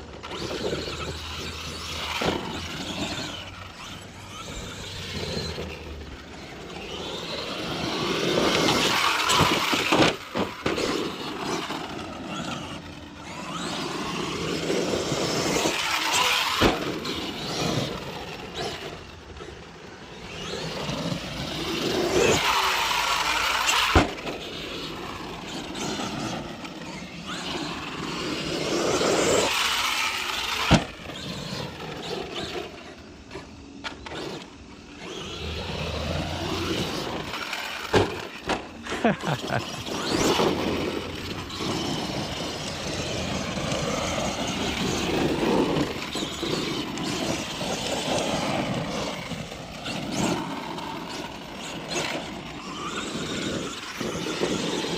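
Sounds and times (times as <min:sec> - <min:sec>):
electric motor whine: 0:00.0 - 0:54.9.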